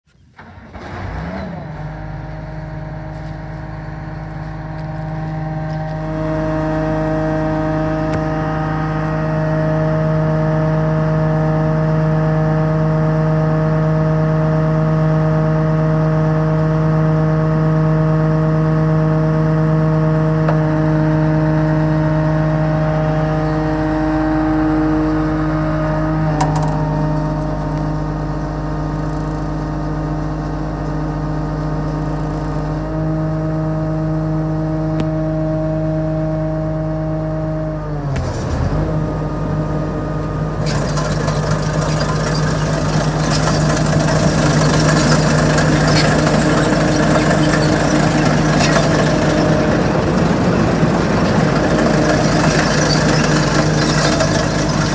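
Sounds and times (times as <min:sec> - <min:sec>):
combine harvester engine hum: 0:00.0 - 0:54.9
machinery whine: 0:00.3 - 0:54.9.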